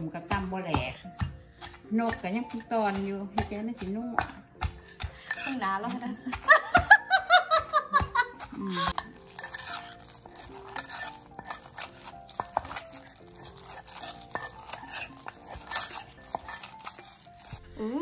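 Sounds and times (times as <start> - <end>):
wooden pestle pounding in mortar: 0.0 - 17.6
soft background music: 0.0 - 18.0
metal spoon scraping mortar: 0.3 - 6.4, 8.4 - 17.6.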